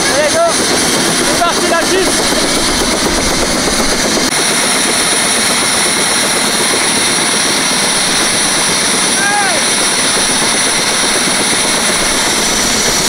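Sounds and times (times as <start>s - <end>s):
helicopter turbine roar and whine: 0.0s - 13.0s.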